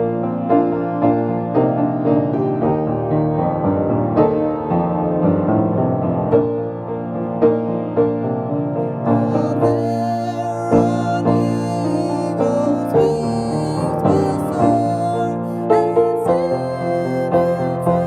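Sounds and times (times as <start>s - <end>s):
slow gentle piano piece: 0.0s - 18.0s.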